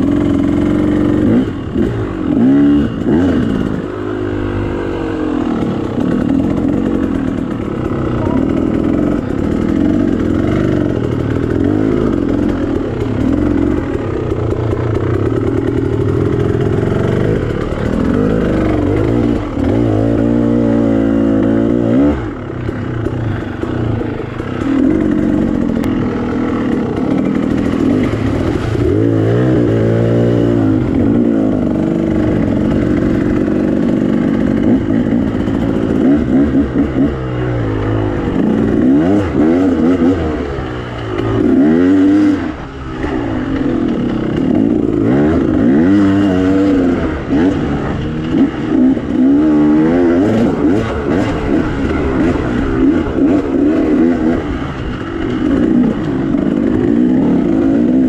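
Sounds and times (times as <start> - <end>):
two-stroke dirt bike engine revving: 0.0 - 58.0.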